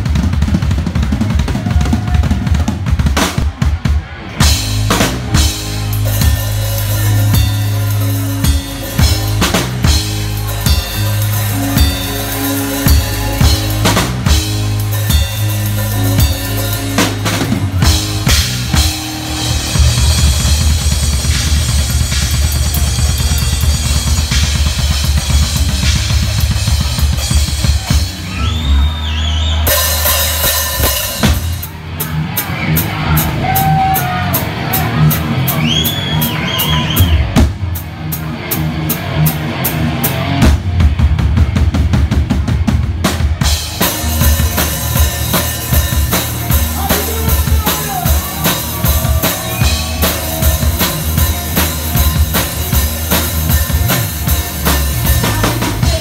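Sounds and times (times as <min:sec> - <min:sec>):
rock band music: 0:00.0 - 0:56.0
rock drum kit: 0:00.0 - 0:56.0.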